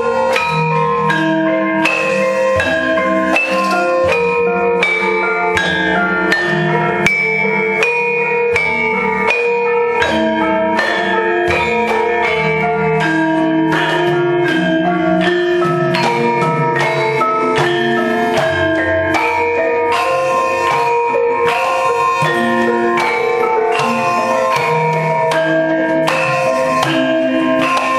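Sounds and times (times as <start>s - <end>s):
gamelan metallophones and gongs: 0.0s - 27.9s
sharp rhythmic strikes: 0.0s - 27.9s.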